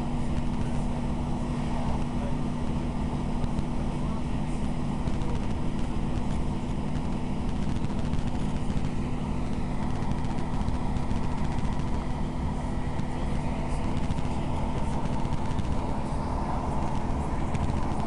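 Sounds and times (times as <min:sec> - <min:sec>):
diesel train rumble: 0:00.0 - 0:18.0
engine hum: 0:00.0 - 0:18.0
wheel and track noise: 0:00.0 - 0:18.0.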